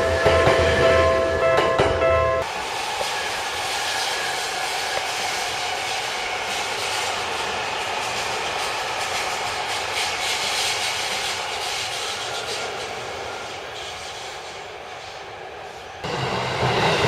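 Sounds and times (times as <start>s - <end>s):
electric train running on rails: 0.0s - 17.0s.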